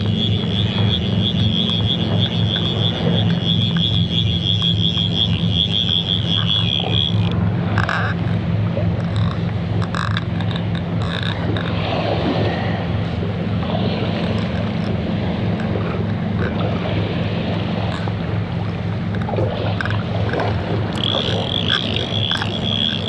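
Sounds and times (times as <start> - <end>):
high whine: 0.0 - 23.0
water: 0.0 - 23.0
wind: 0.0 - 23.0.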